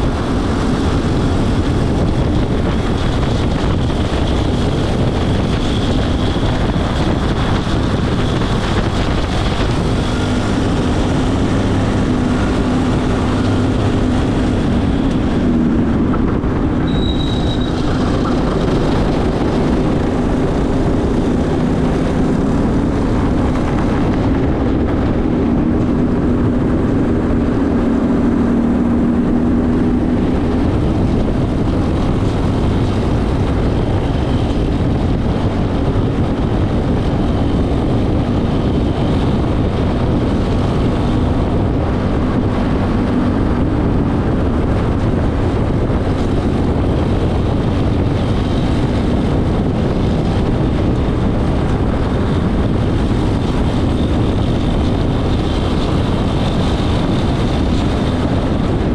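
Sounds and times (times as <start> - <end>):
go-kart engine running hard: 0.0 - 58.9
wind rush on microphone: 0.0 - 58.9.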